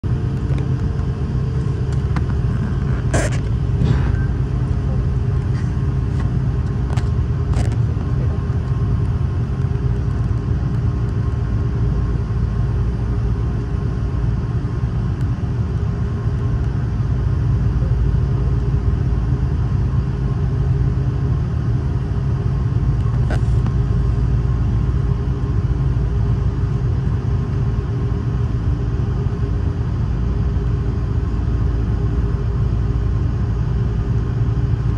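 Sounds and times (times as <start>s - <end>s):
aircraft cabin engine hum: 0.0s - 34.9s.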